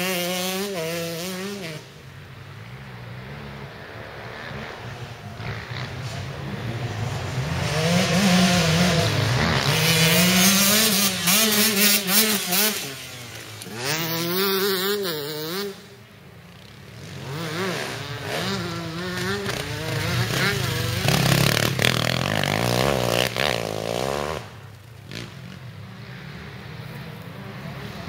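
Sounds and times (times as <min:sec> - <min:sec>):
motorcycles revving past: 0:00.0 - 0:28.0.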